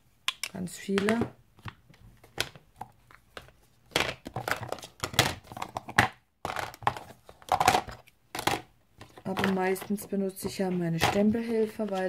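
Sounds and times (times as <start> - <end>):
acrylic blocks clacking: 0.3 - 12.0.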